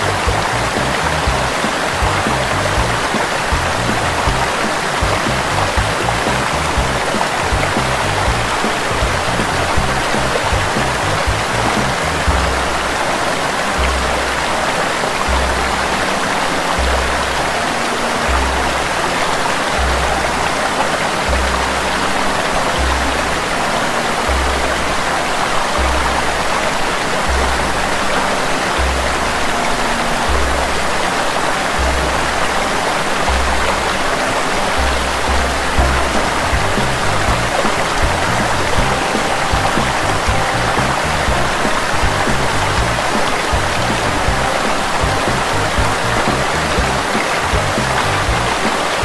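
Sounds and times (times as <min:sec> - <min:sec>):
pulsing bass music: 0:00.0 - 0:49.0
water rushing down rocky cascade: 0:00.0 - 0:49.0.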